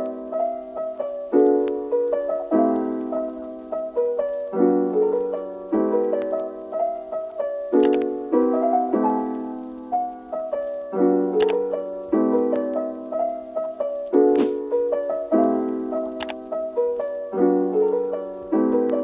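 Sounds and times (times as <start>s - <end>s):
piano melody over chords: 0.0s - 19.0s.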